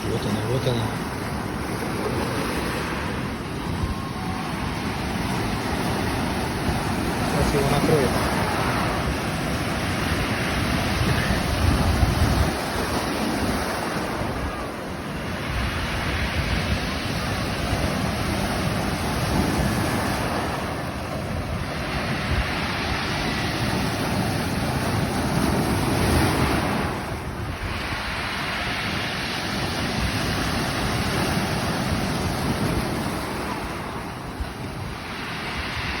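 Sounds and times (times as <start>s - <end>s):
waves breaking: 0.0s - 36.0s
wind buffeting microphone: 0.0s - 36.0s.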